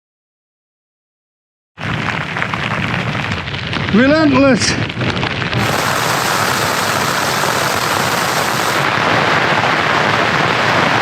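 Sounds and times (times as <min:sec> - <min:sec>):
heavy rain falling: 0:01.8 - 0:11.0.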